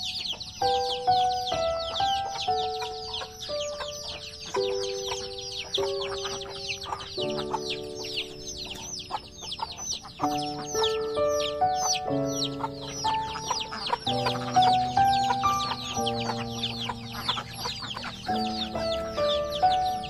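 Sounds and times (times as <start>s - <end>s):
chicks peeping: 0.0s - 20.0s
slow background music: 0.0s - 20.0s.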